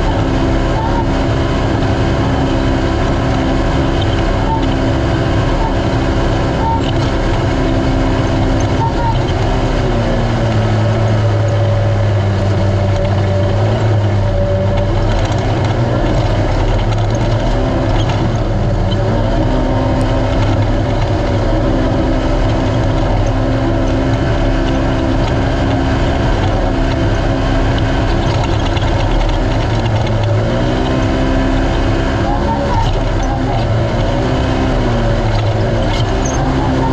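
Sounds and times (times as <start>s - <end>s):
race engine running hard: 0.0s - 36.9s.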